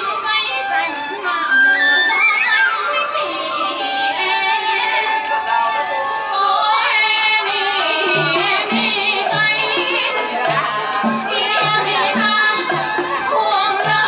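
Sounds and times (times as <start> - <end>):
wavering folk melody with vibrato: 0.0 - 14.0.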